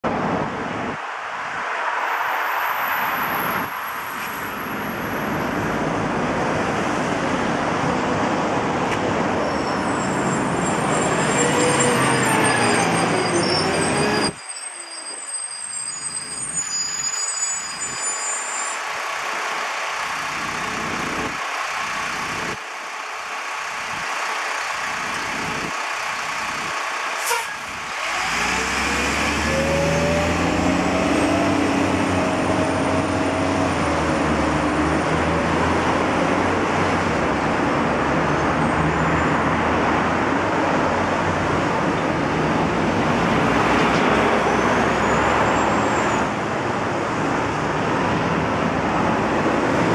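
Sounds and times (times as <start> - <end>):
road traffic passing: 0.0 - 49.9
heavy vehicle engine: 2.7 - 49.9.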